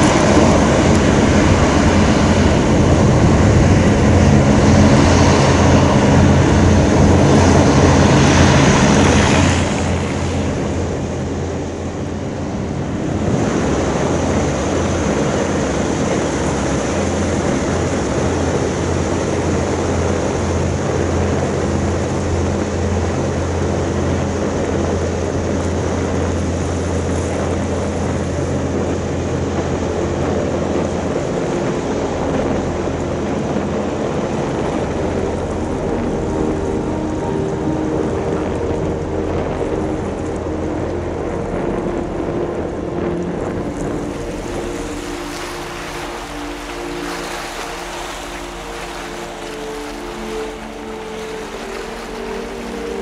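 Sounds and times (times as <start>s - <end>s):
hovercraft engine drone: 0.0s - 53.0s.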